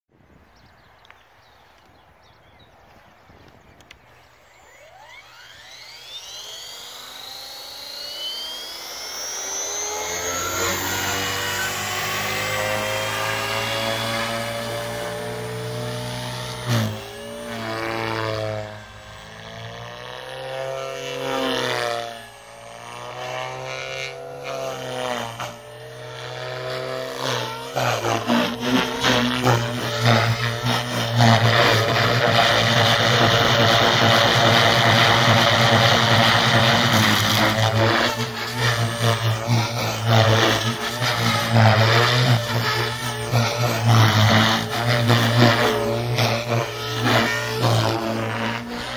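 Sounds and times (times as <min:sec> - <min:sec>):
rc helicopter whine: 0:00.3 - 0:48.9.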